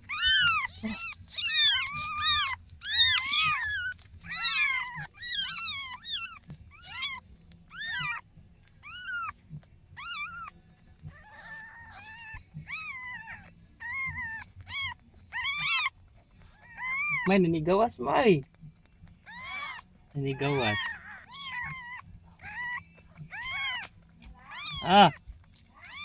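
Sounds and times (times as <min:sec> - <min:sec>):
kitten mewing: 0:00.0 - 0:17.3, 0:18.4 - 0:26.0.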